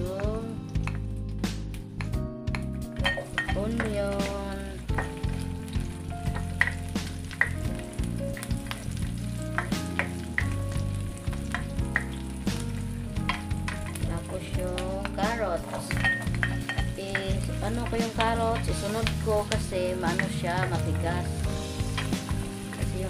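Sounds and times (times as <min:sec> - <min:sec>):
onion sizzling in oil: 0:02.7 - 0:23.0.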